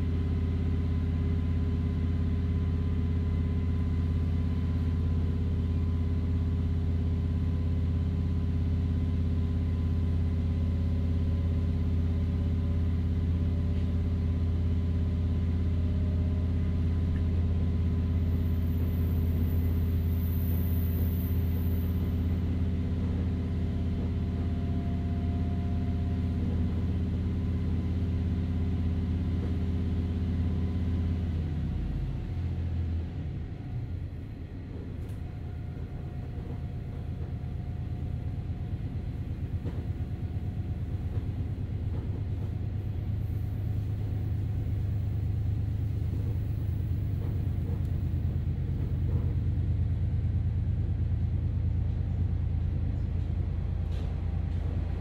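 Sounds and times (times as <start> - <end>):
diesel engine drone: 0.0 - 55.0
rail running noise: 0.0 - 55.0.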